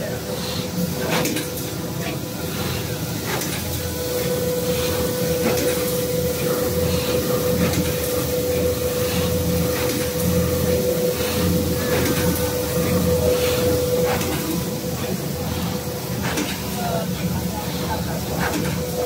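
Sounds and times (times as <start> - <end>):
high machine whine: 0.0 - 19.0.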